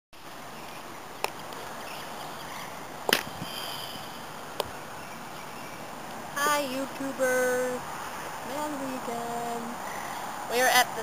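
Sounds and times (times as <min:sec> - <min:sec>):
outdoor background hiss: 0:00.2 - 0:11.0.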